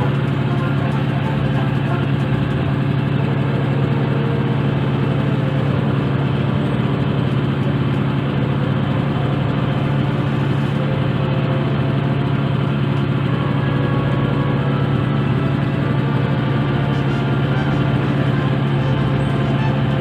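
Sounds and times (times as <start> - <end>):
motorboat engine running: 0.0 - 20.0.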